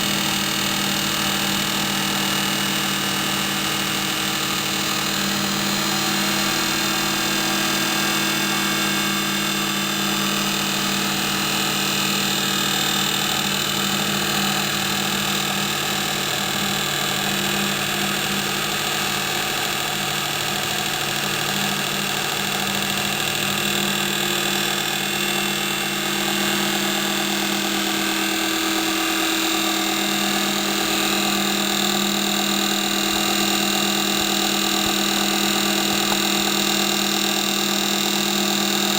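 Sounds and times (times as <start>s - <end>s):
lathe machine hum: 0.0s - 38.9s.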